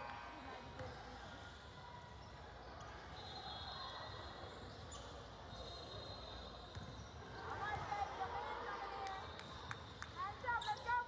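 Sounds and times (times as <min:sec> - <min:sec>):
gym hall background: 0:00.0 - 0:11.0.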